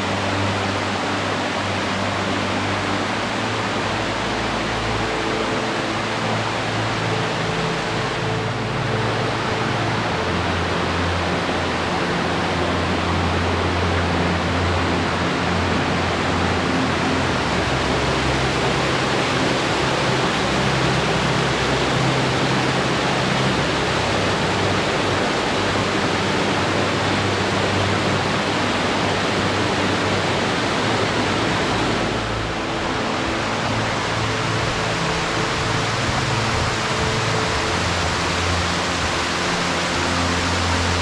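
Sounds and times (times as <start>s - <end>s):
flowing water rushing: 0.0s - 41.0s.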